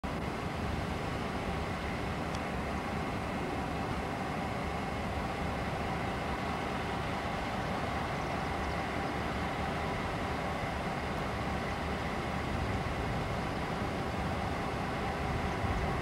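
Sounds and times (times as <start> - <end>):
diesel locomotives droning: 0.0 - 16.0.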